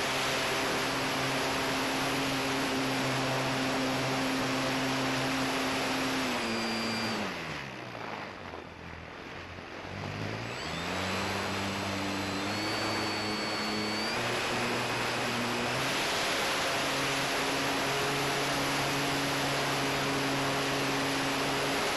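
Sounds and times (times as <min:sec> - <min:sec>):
electric motor and propeller whining: 0:00.0 - 0:21.9.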